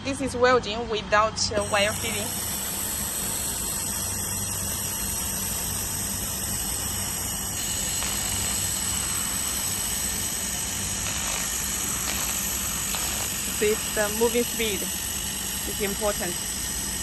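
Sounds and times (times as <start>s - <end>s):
laser welding machine hissing: 1.5s - 17.0s.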